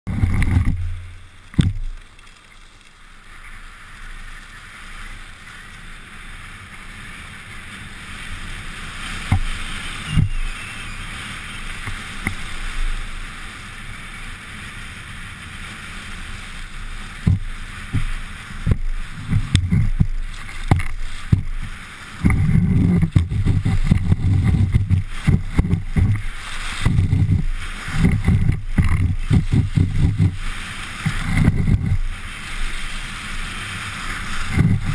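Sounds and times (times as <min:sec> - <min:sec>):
skis scraping on packed snow: 0:00.1 - 0:34.9
wind rumbling on microphone: 0:00.1 - 0:34.9.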